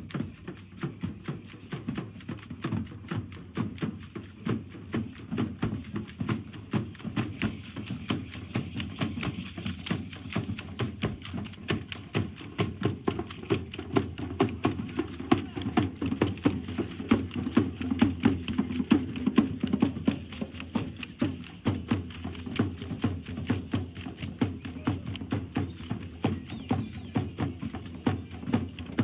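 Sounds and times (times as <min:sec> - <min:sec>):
fast drumming and stepping: 0:00.0 - 0:29.0.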